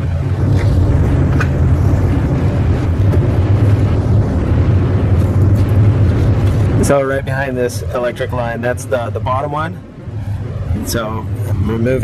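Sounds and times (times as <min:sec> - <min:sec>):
low droning rumble: 0:00.0 - 0:12.0.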